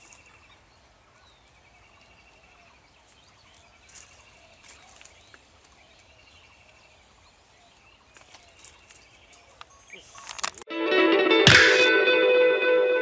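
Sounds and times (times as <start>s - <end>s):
birds chirping and calling: 0.0s - 10.5s
faint outdoor background noise: 0.0s - 10.7s.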